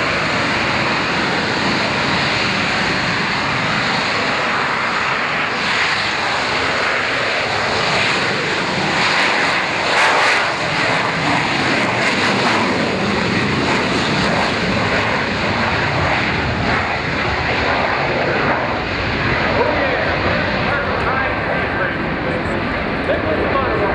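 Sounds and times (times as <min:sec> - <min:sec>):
jet engine roaring: 0:00.0 - 0:23.9.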